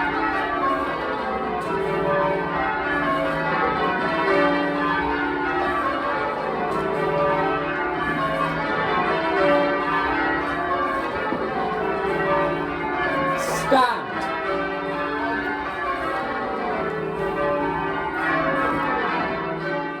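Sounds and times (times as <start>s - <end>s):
church bells ringing rounds: 0.0s - 20.0s.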